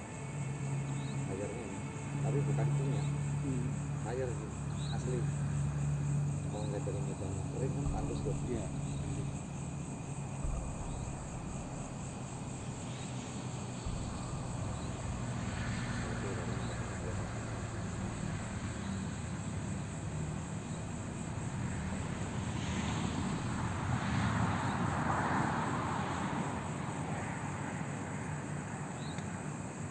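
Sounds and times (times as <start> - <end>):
crickets trilling: 0.0 - 29.9
distant engine drone: 0.0 - 29.9.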